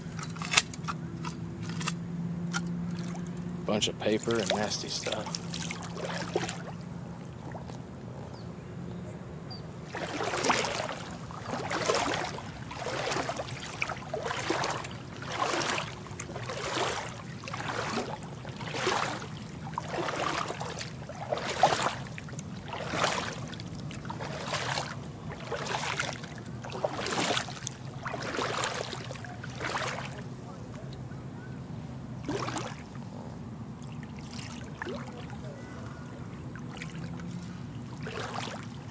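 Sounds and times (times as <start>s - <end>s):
footsteps wading through water: 0.0s - 8.1s, 9.7s - 31.1s, 32.2s - 38.9s.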